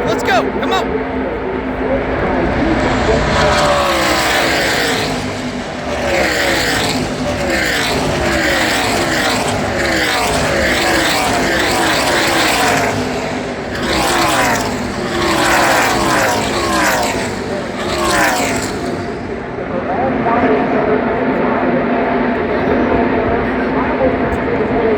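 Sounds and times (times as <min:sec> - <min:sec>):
race truck engines at full throttle: 0:00.0 - 0:24.9.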